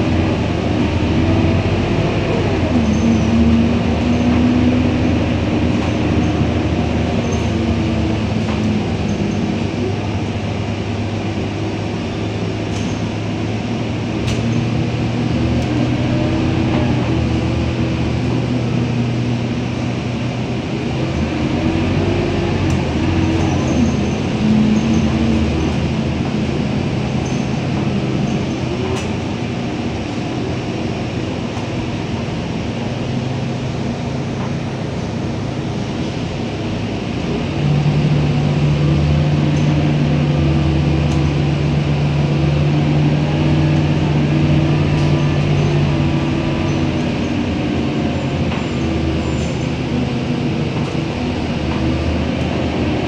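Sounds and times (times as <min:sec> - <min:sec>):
bus engine humming: 0:00.0 - 0:53.0
road and body rumble: 0:00.0 - 0:53.0.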